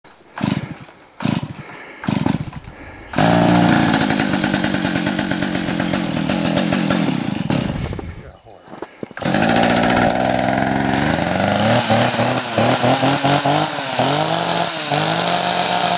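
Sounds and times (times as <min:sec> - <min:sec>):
small gasoline engine running: 0:00.3 - 0:08.1, 0:09.2 - 0:15.9.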